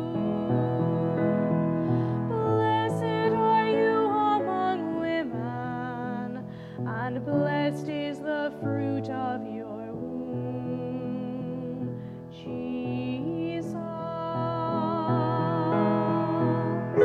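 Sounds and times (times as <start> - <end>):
soprano singing with vibrato: 0.0 - 11.9, 12.5 - 17.0
piano accompaniment: 0.0 - 17.0.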